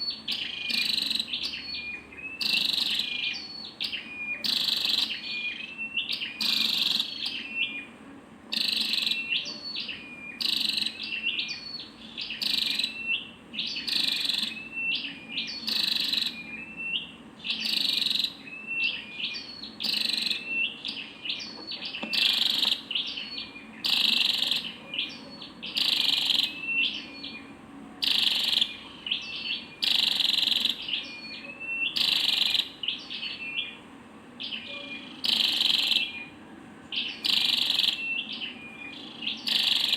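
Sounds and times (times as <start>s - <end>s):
bird calling with high chips: 0.0s - 7.8s, 8.6s - 33.8s, 34.4s - 36.3s, 36.9s - 39.9s.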